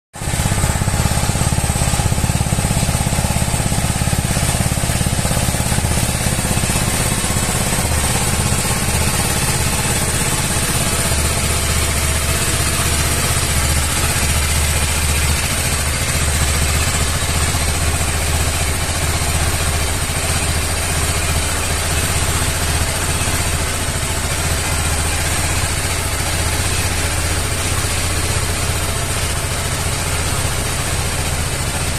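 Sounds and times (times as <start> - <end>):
motorcycle engine running: 0.2 - 31.9.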